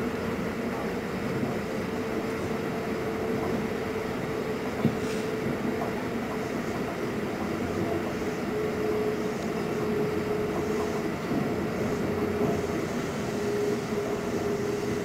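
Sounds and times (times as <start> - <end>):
constant hum: 0.0 - 15.0
train wheels rumbling in tunnel: 0.0 - 15.0.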